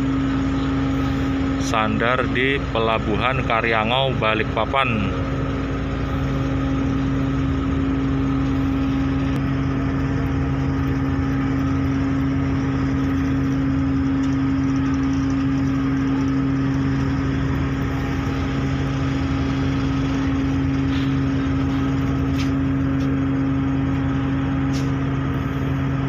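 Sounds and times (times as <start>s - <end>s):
ship diesel engines humming: 0.0s - 26.0s.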